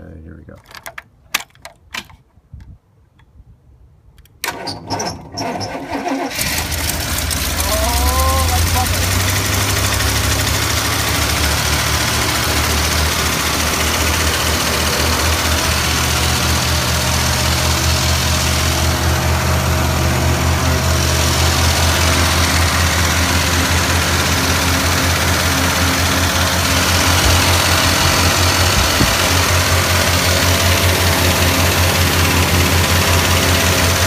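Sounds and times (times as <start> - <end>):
motorhome engine idling: 6.4 - 34.0.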